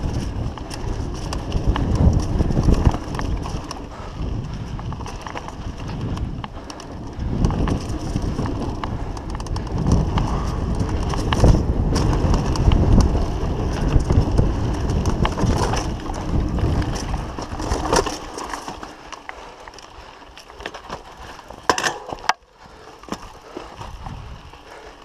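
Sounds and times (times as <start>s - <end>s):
bike chain and frame rattling: 0.0s - 25.0s
wind and trail rumble: 0.0s - 25.0s.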